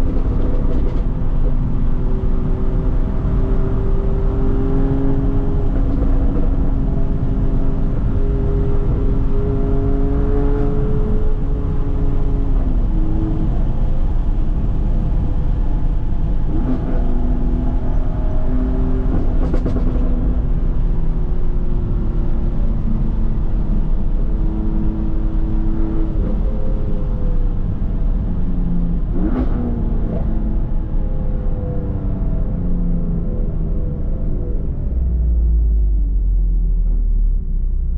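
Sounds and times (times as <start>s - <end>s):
car engine revving: 0.0s - 37.8s.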